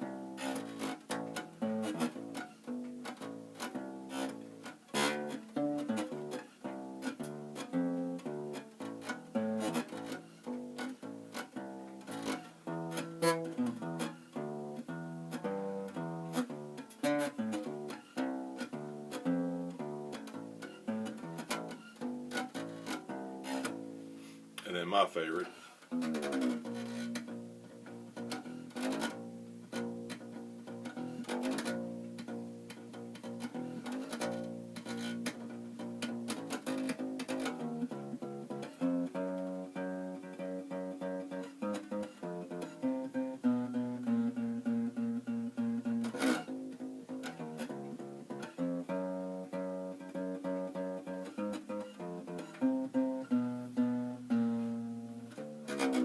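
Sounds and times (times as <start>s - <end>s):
acoustic bass guitar finger-plucked: 0.0s - 56.0s.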